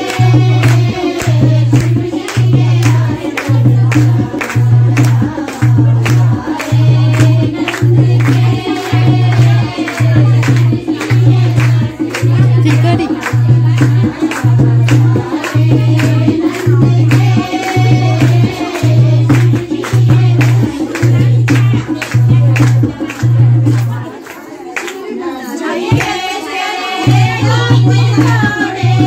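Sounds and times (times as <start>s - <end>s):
hand clapping: 0.0s - 29.0s
women singing together: 0.0s - 29.0s.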